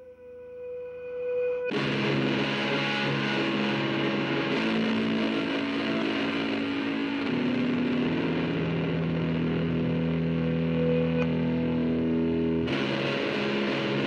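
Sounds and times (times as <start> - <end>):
distorted electric guitar chords: 1.5 - 14.0.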